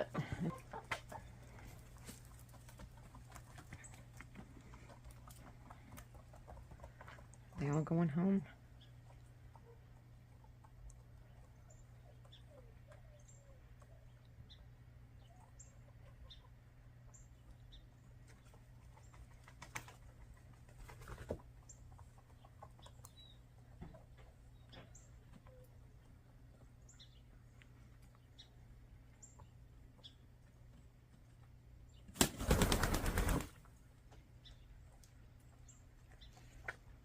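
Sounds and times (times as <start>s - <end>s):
hens clucking softly: 0.0s - 7.6s, 8.6s - 31.6s.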